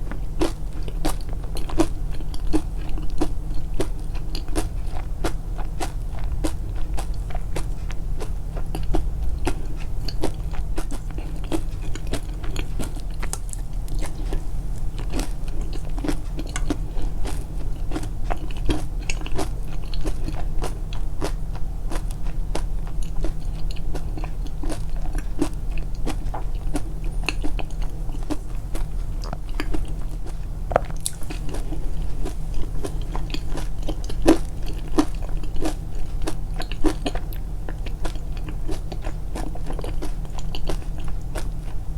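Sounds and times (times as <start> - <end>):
chewing crunchy food: 0.0 - 41.9
steady low hum: 0.0 - 41.9.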